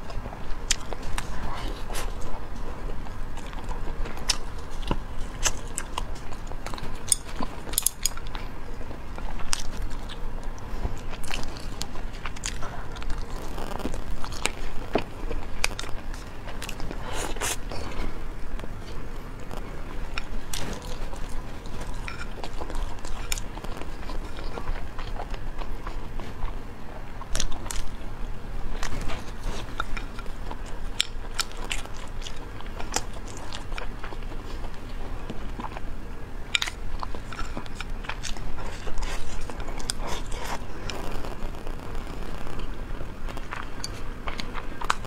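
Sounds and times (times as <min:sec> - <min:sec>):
chewing and biting food: 0:00.0 - 0:45.0.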